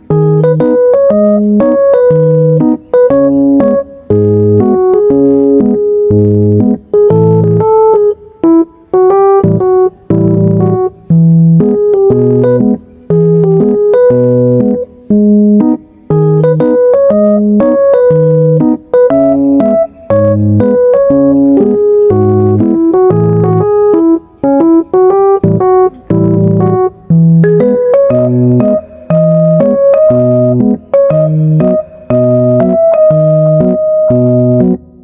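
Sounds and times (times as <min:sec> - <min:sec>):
keyboard melody over chords: 0:00.0 - 0:35.0.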